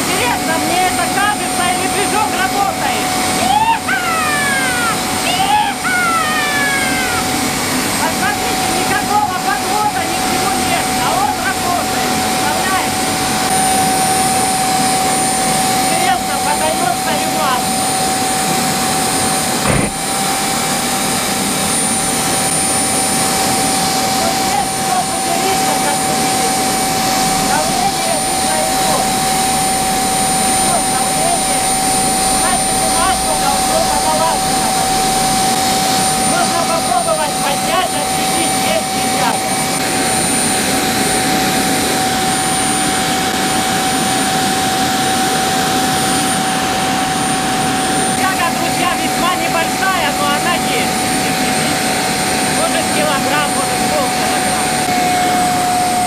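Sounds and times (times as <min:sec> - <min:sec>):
turbojet engine whine: 0:00.0 - 0:56.0.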